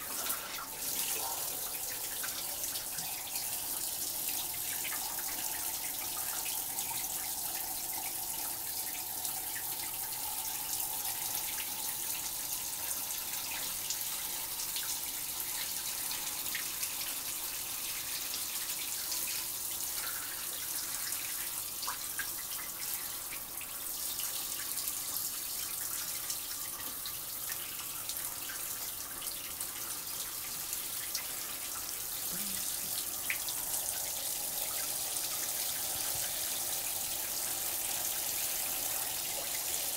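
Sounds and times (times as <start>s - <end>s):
water drips and splashes: 0.0s - 39.9s.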